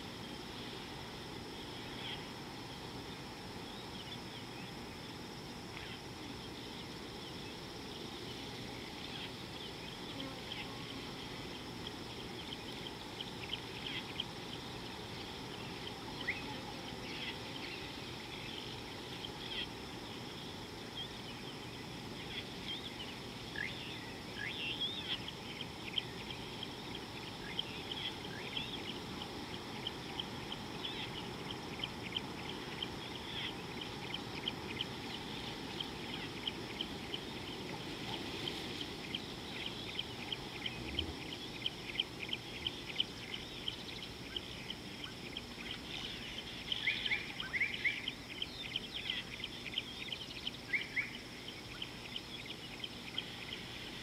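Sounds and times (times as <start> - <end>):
insect buzz: 0.0 - 54.0
low background noise: 0.0 - 54.0.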